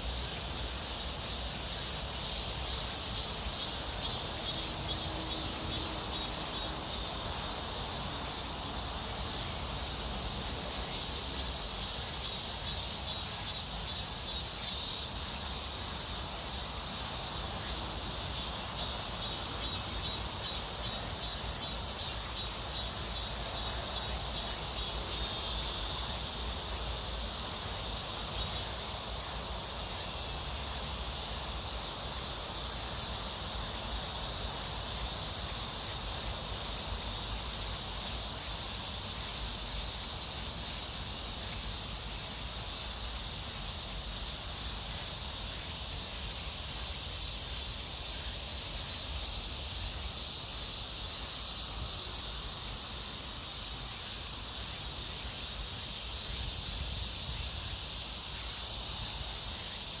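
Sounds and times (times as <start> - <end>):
insects buzzing: 0.0 - 60.0.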